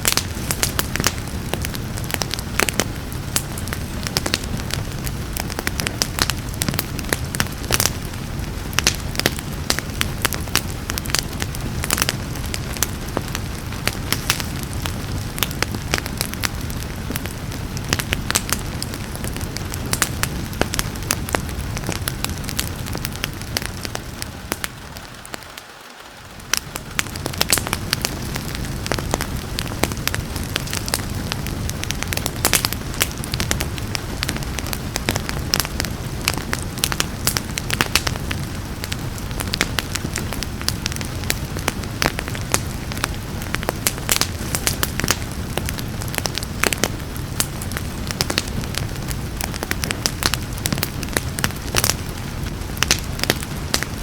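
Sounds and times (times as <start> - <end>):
rain hissing: 0.0 - 54.0
wood fire crackling and popping: 0.0 - 54.0.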